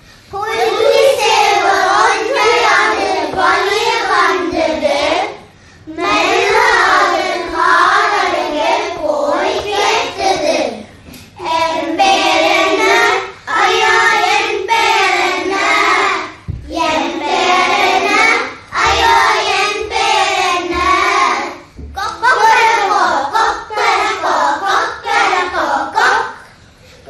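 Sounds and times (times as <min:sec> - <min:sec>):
children singing: 0:00.4 - 0:10.8, 0:11.4 - 0:26.5.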